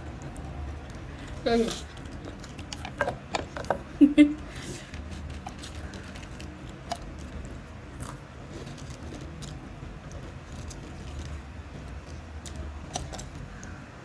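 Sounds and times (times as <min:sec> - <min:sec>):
crisps being chewed: 0:00.0 - 0:03.6, 0:04.8 - 0:13.8.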